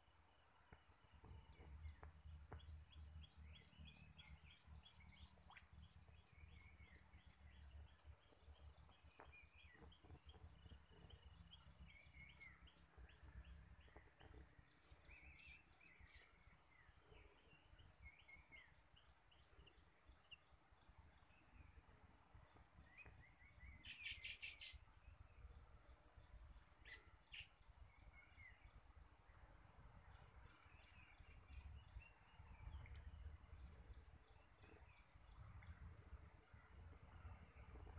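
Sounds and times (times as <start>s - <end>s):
birds chirping: 0.3s - 37.9s.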